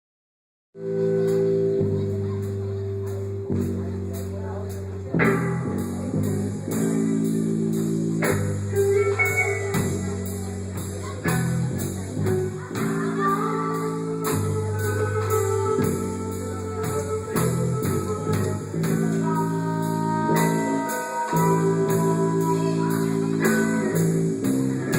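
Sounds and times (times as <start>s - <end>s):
guitar: 0.8s - 24.9s
live band music: 0.8s - 24.9s
steady drum beat: 1.0s - 24.9s.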